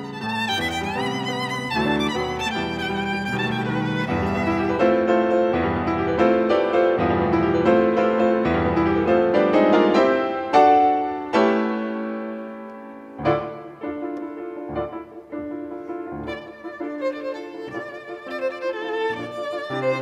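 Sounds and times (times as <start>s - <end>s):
violin melody with piano: 0.0s - 20.0s.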